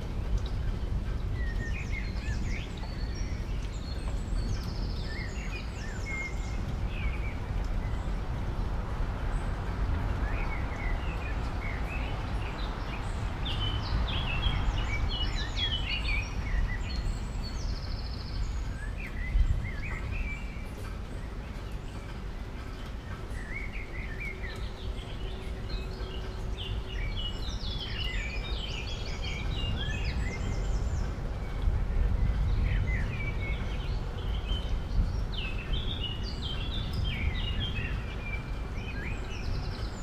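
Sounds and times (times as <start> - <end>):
small birds twittering: 0.0 - 40.0.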